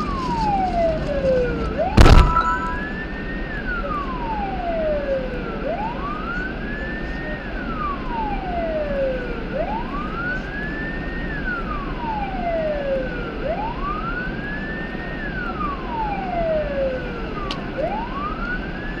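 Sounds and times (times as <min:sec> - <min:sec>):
police siren wailing: 0:00.0 - 0:19.0.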